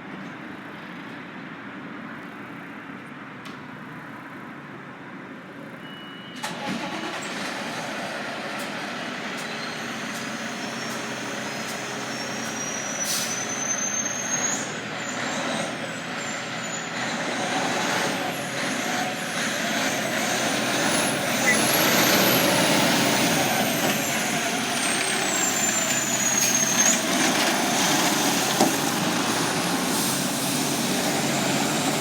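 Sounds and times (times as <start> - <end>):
fire truck engine: 6.4 - 32.0.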